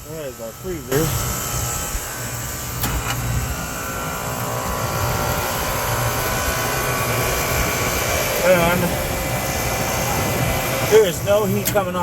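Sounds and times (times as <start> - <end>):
condensing unit fan rush and hum: 0.0 - 12.0.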